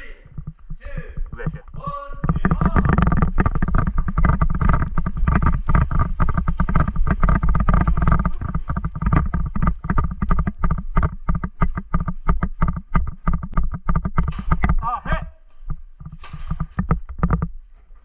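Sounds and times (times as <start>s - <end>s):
rapid clicks and knocks: 0.2s - 14.9s, 15.5s - 18.0s.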